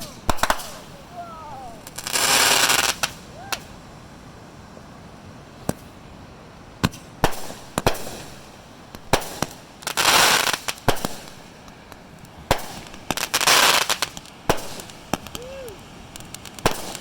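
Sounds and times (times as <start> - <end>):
fireworks banging: 0.0 - 3.8, 6.8 - 17.0
fireworks crackling hiss: 0.0 - 17.0.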